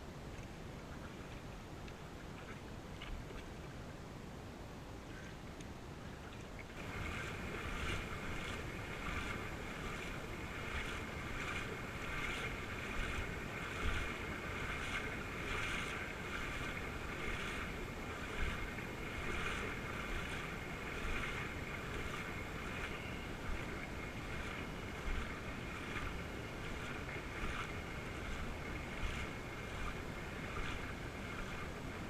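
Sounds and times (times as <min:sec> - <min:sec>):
wind rumble on microphone: 0:00.0 - 0:32.0
paddle strokes splashing in water: 0:00.3 - 0:03.9, 0:05.0 - 0:32.0.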